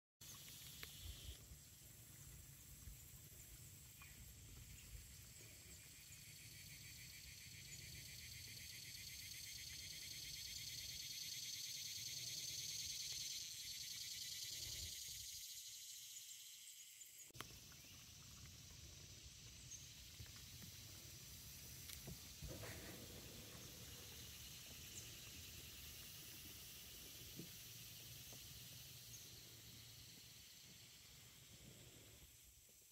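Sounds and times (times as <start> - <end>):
insects buzzing: 0.2 - 32.6.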